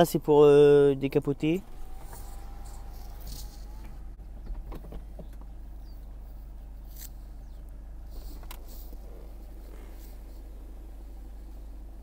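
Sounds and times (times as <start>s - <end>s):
soft top motor hum: 1.4s - 4.6s, 5.2s - 12.0s.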